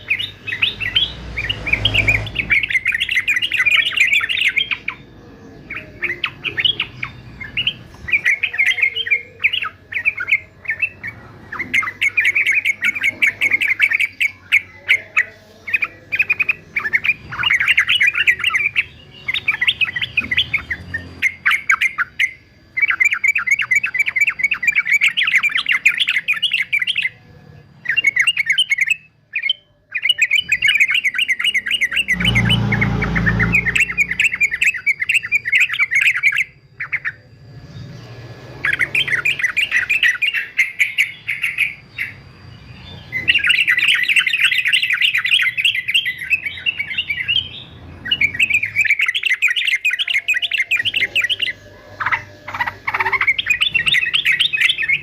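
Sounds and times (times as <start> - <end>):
bird singing chattering notes: 0.0 - 55.0.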